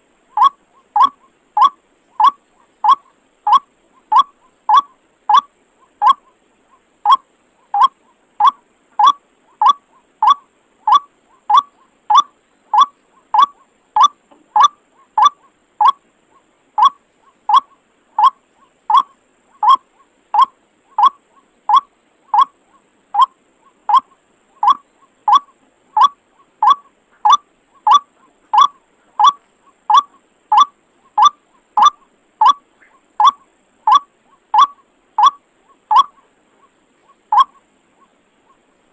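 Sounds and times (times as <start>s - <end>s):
waterhen calling: 0.0s - 38.7s.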